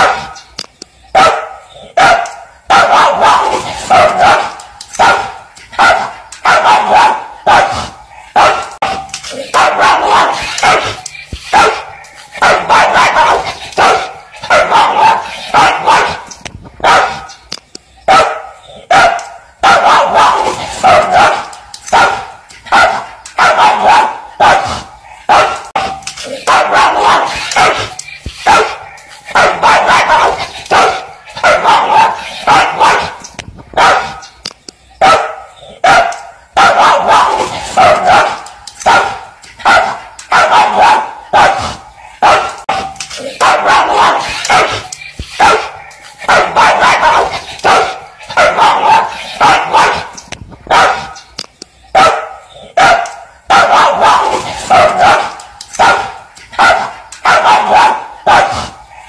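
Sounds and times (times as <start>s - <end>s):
dog barking: 0.0s - 0.5s, 1.2s - 17.4s, 18.1s - 34.4s, 35.0s - 51.3s, 52.0s - 59.0s.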